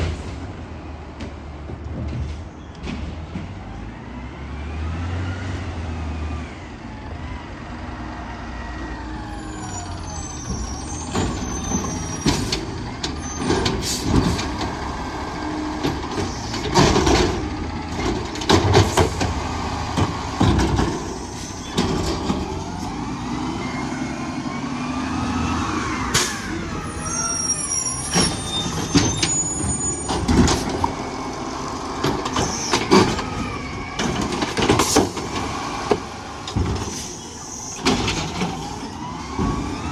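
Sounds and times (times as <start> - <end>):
garbage truck engine revving: 2.9 - 39.9.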